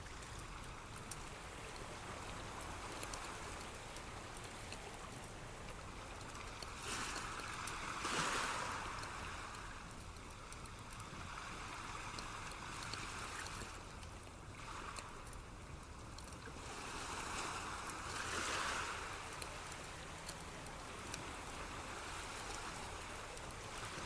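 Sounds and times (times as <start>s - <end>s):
faint ticks: 0.0s - 24.0s
rushing water: 0.0s - 24.0s.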